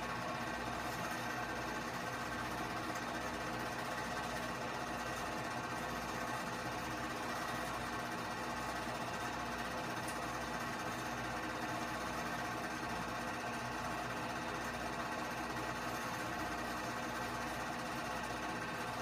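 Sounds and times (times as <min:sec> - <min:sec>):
projector motor hum: 0:00.0 - 0:19.0
film clattering through projector: 0:00.2 - 0:19.0.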